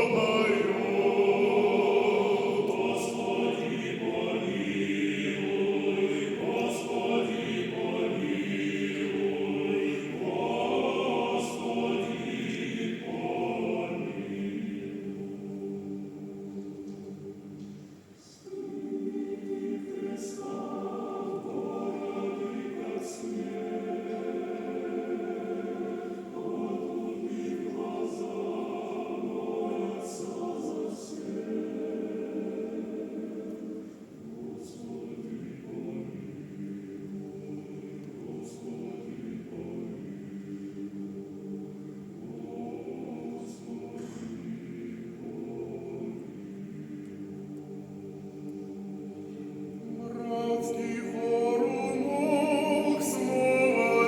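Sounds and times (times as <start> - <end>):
male choir singing: 0.0 - 54.0.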